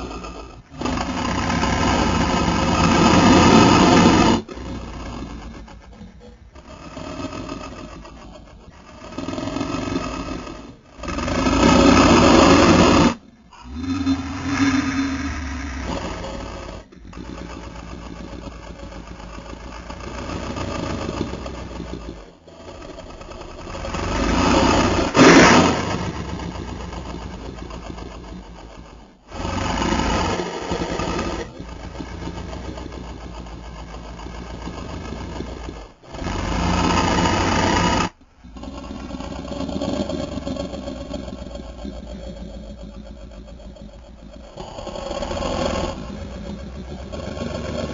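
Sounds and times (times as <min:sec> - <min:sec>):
creature growls and roars: 0:00.0 - 0:47.9.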